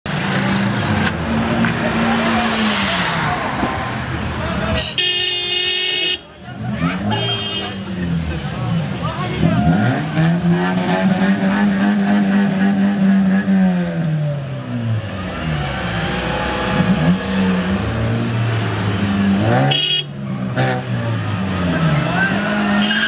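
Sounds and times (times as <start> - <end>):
car engine revving: 0.1 - 4.9, 7.9 - 23.0.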